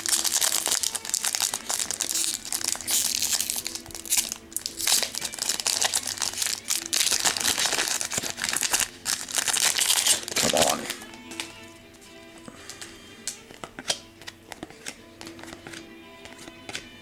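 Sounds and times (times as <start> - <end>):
foil wrappers crinkling: 0.0 - 15.8.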